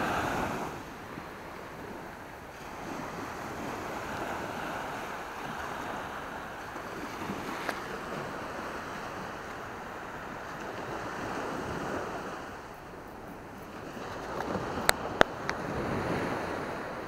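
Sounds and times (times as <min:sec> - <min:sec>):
small waves washing onto sand: 0:00.0 - 0:17.0.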